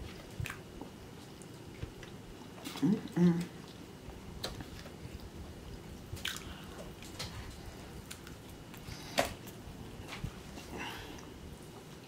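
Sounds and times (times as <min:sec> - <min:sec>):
person chewing fried food: 0:00.0 - 0:12.0.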